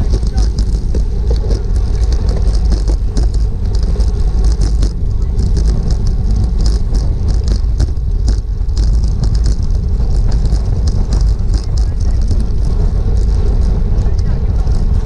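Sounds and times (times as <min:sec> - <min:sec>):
road and tyre noise: 0:00.0 - 0:15.0
wind rushing over microphone: 0:00.0 - 0:15.0.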